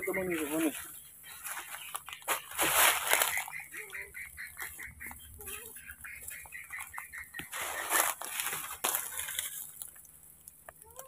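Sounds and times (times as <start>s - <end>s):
dry leaves crunching underfoot: 0.0s - 10.6s.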